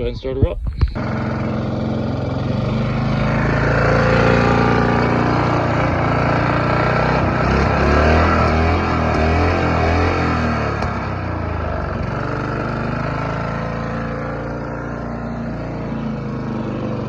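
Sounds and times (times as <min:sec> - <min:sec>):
lawn mower engine running: 0:00.5 - 0:17.0.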